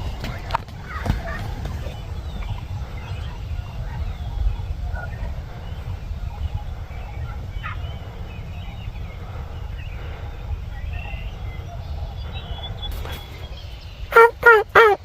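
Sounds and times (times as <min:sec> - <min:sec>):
wild turkeys gobbling: 0:00.0 - 0:13.4, 0:14.1 - 0:15.0.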